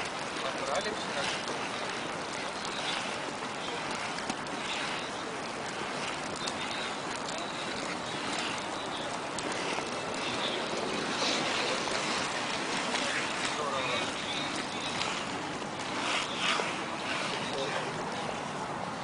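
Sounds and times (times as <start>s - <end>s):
inline skate wheels on asphalt: 0.0s - 19.0s.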